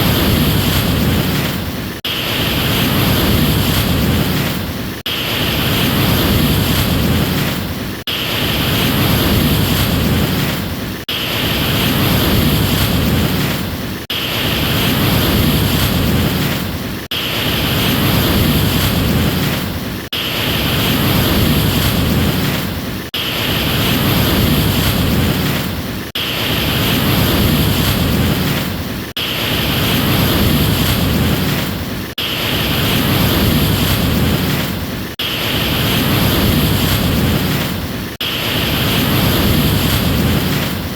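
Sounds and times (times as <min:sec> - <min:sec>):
ocean surf washing in: 0:00.0 - 0:40.9.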